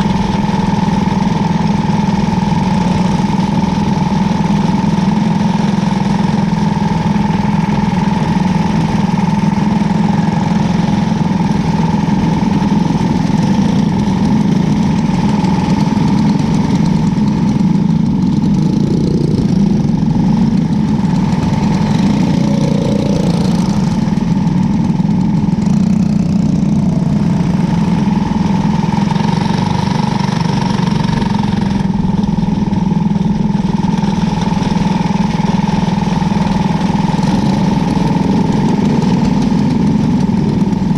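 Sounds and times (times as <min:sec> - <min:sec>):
racing car engine running: 0:00.0 - 0:40.9.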